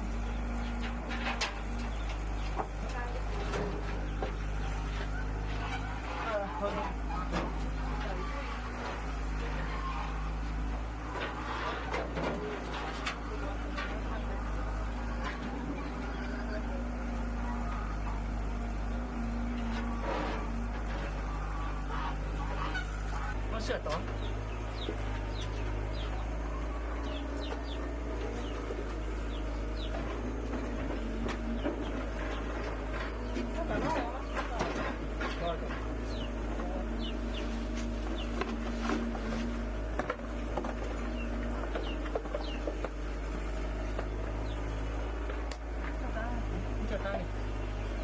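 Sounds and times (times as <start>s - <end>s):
engine droning: 0.0s - 48.0s
steady low hum: 0.0s - 48.0s.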